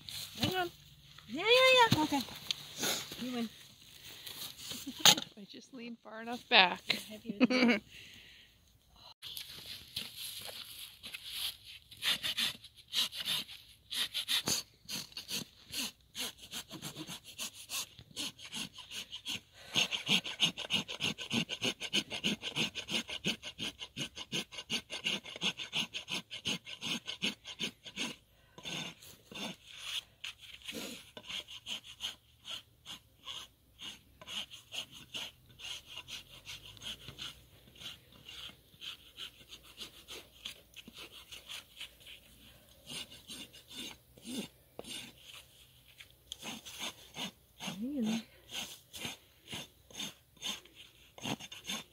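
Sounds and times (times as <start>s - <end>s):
rasp filing a hoof: 1.3s - 3.5s, 4.1s - 5.3s, 11.0s - 51.9s.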